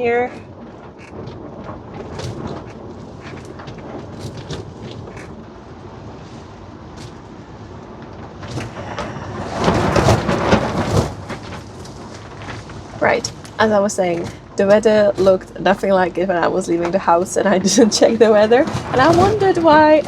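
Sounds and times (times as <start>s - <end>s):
plastic sheeting flapping: 0.0s - 20.0s
strong wind gusting: 0.0s - 20.0s.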